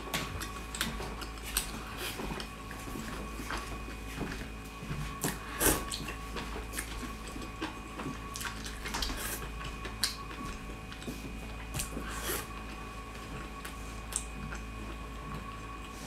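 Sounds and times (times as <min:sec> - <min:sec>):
wet chewing and slurping: 0:00.2 - 0:16.0.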